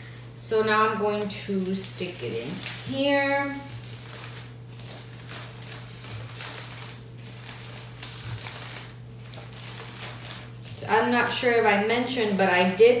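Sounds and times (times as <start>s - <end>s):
steady low hum: 0.0s - 13.0s
plastic bag rustling and crinkling: 0.9s - 13.0s.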